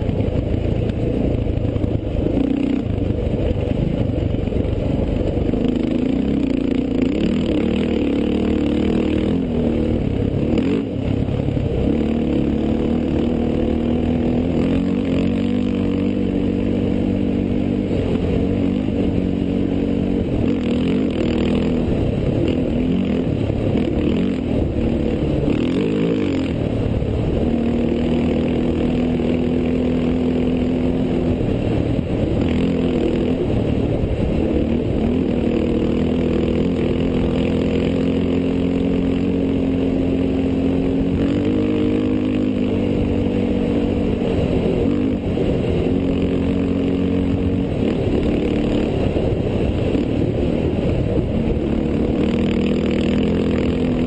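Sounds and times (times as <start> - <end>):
race vehicle engine running: 0.0 - 54.0.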